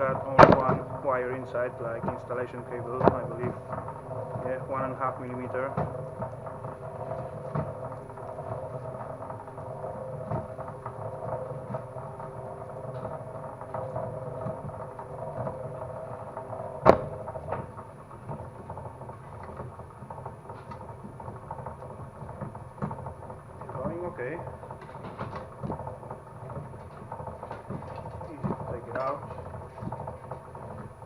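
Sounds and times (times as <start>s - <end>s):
motor hum with held tones: 0.0s - 31.0s.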